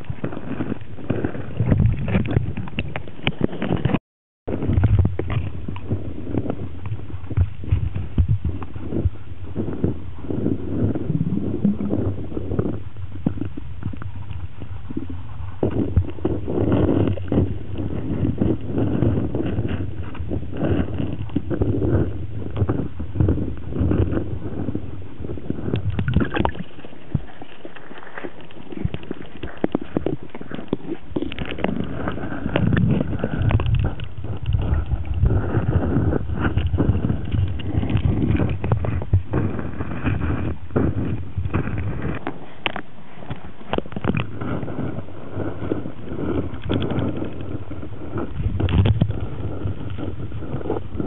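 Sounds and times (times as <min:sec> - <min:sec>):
muffled underwater churning: 0:00.0 - 0:51.0.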